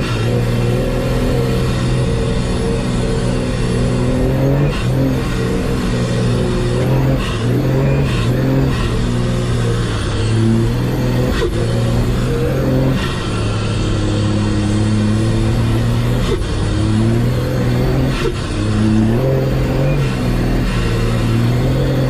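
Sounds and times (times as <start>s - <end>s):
diesel engine revving under load: 0.0s - 22.0s.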